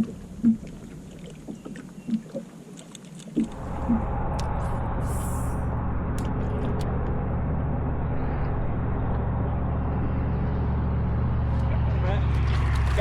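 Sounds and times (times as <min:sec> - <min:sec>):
outboard motor running: 0:00.0 - 0:02.5, 0:03.4 - 0:13.0.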